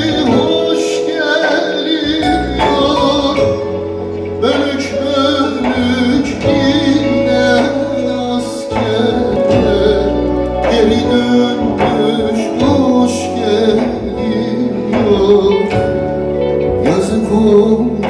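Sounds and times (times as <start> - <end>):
steady low drone notes: 2.0 - 18.0.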